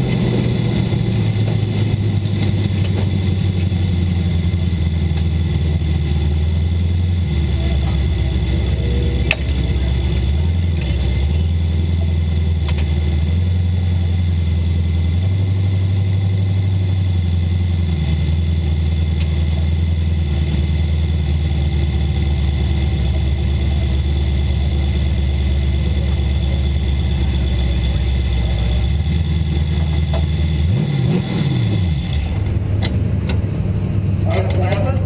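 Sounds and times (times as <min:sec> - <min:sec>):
race car engine idling and revving: 0:00.0 - 0:35.0.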